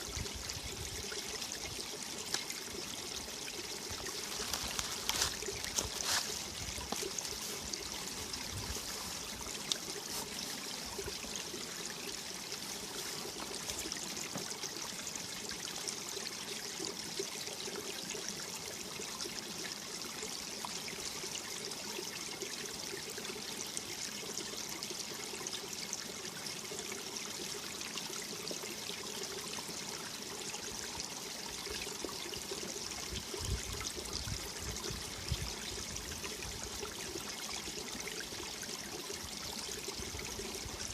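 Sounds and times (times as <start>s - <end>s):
stream flowing and splashing: 0.0s - 40.9s.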